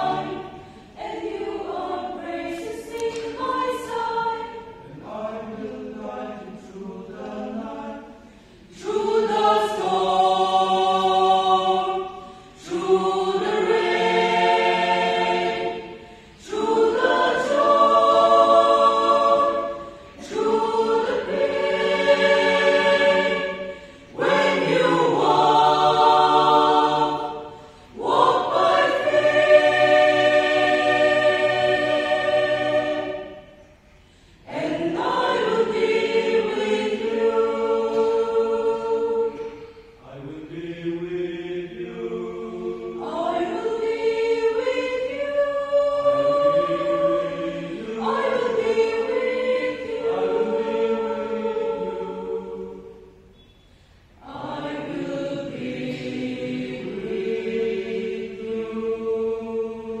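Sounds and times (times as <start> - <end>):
choir singing a hymn: 0.0 - 60.0.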